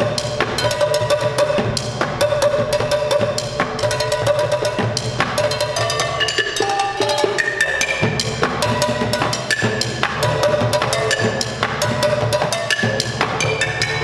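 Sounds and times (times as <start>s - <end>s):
drumming on plastic buckets: 0.0s - 14.0s.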